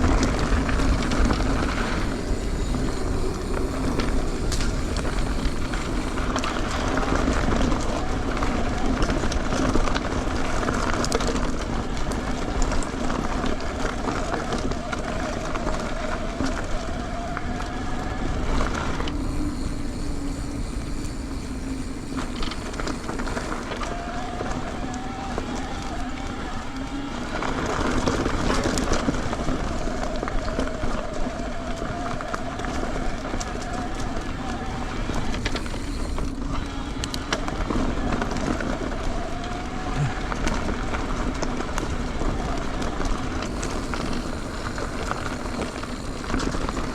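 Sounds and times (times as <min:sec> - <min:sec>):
bike tyre noise on dirt: 0:00.0 - 0:46.9.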